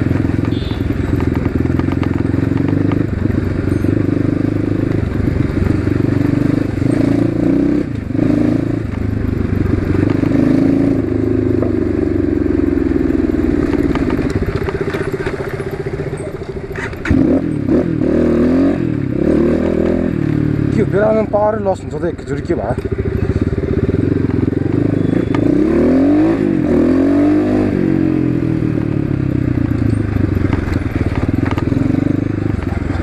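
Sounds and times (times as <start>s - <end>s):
dirt bike engine: 0.0s - 33.0s.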